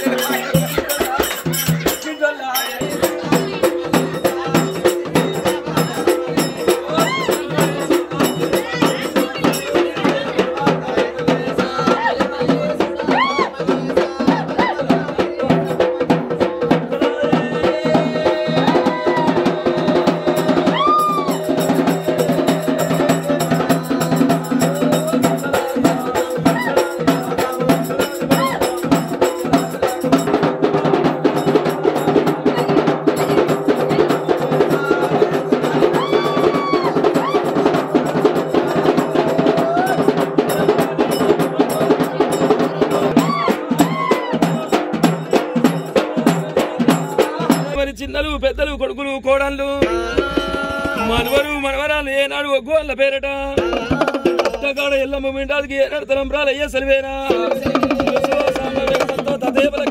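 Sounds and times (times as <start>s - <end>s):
barrel drum beaten with stick: 0.0s - 48.5s, 49.7s - 52.0s, 53.5s - 54.8s, 57.2s - 59.9s.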